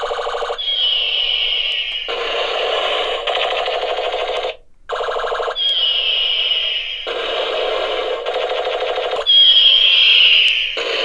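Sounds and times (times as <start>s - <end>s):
toy gun electronic firing effect: 0.0s - 11.0s.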